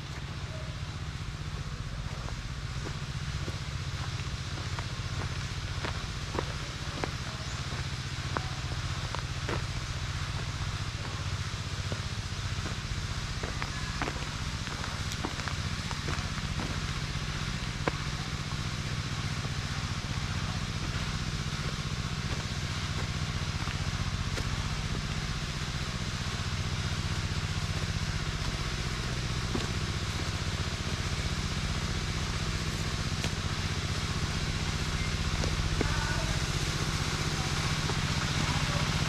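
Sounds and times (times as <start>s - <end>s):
blower engine running: 0.0s - 39.0s.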